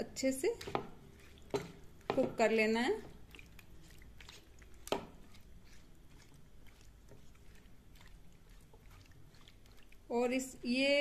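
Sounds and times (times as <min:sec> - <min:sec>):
spatula stirring pasta in sauce: 0:00.0 - 0:11.0.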